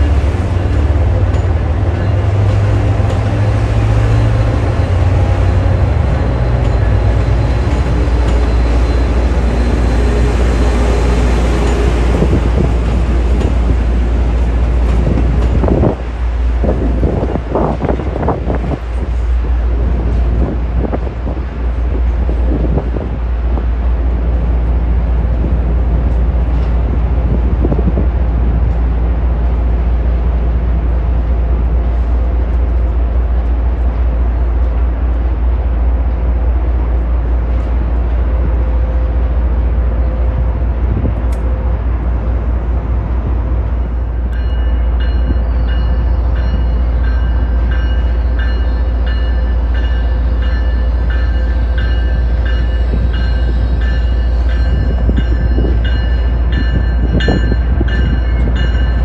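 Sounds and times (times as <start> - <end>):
low rumble of rail yard: 0.0 - 59.0
train pulling away: 0.0 - 59.0.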